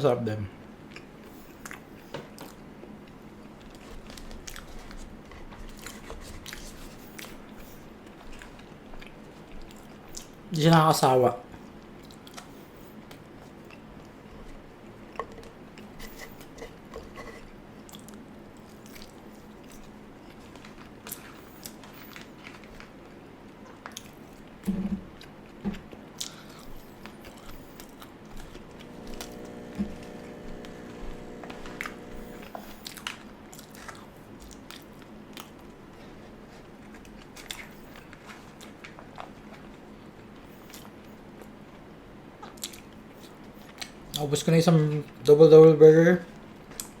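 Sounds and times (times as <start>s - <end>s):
chewing and biting food: 0.8s - 10.4s, 11.6s - 16.8s, 17.8s - 41.8s, 42.4s - 44.2s.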